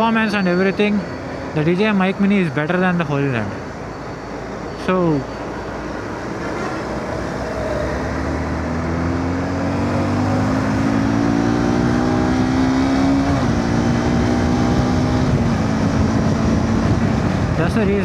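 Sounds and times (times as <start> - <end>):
motorcycle engine revving: 1.3 - 17.6.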